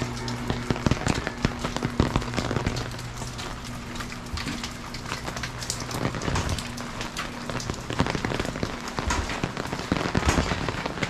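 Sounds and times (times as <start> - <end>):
raindrops striking close by: 0.0 - 11.0.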